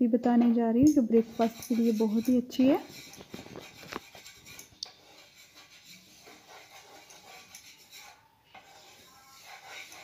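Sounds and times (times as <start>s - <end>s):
wooden spatula scraping frying pan: 1.0s - 10.0s.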